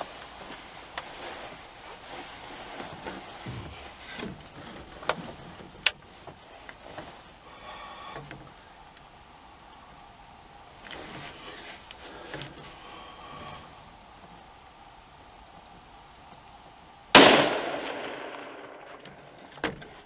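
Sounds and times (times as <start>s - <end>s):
rustling and handling noise: 0.0s - 16.5s.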